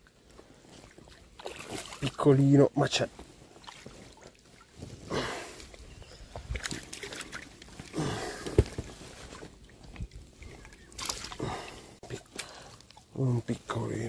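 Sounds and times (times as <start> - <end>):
fishing gear rustling: 0.0 - 13.8.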